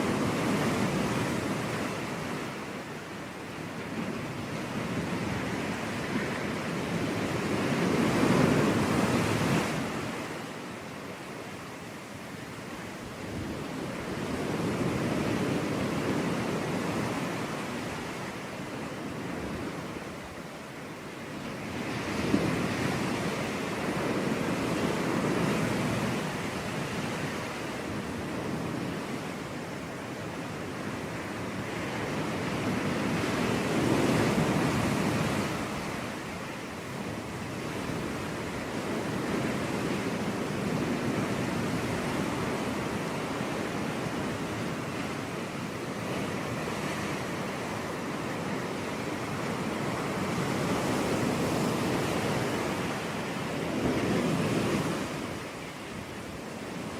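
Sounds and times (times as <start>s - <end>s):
sea waves breaking on a beach: 0.0s - 56.9s.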